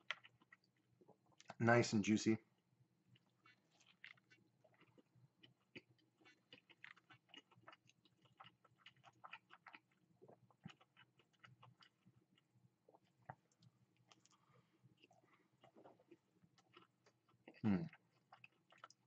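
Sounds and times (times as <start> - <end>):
chewing crispy food: 0.0 - 1.6, 3.0 - 19.0.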